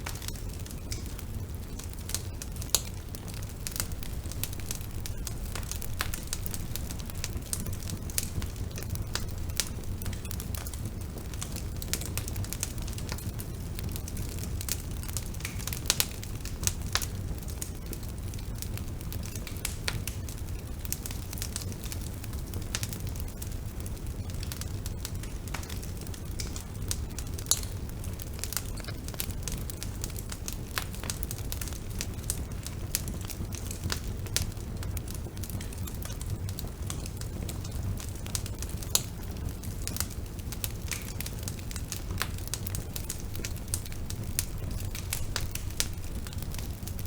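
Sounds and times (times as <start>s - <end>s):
bonfire crackling and popping: 0.0s - 47.0s.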